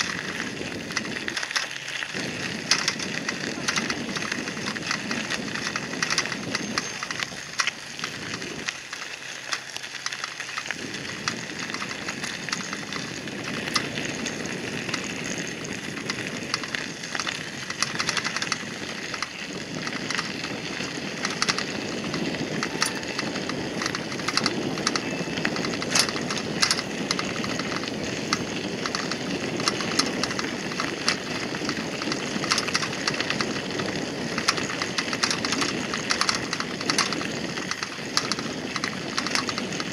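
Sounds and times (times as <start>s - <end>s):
bicycle tyres crunching on gravel: 0.0s - 39.9s.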